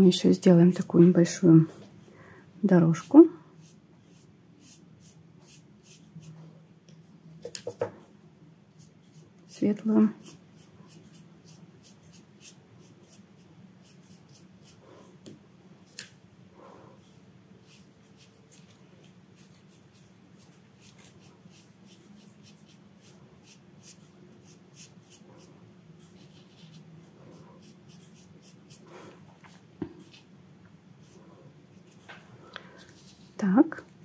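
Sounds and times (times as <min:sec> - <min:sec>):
paintbrush strokes on paper: 0:02.8 - 0:06.6, 0:08.8 - 0:15.2, 0:15.8 - 0:30.3, 0:31.0 - 0:33.6.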